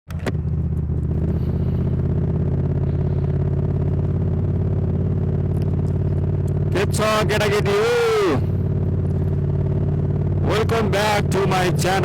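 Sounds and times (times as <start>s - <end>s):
engine humming: 0.1s - 12.0s.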